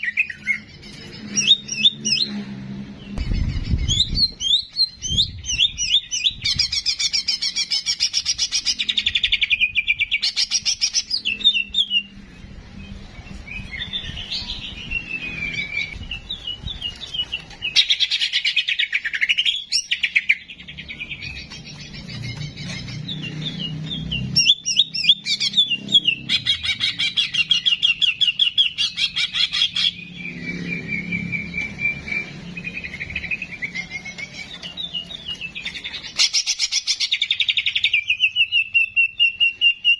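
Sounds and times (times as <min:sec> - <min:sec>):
songbird trilling and whistling: 0:00.0 - 0:02.4, 0:03.1 - 0:12.2, 0:12.8 - 0:39.9.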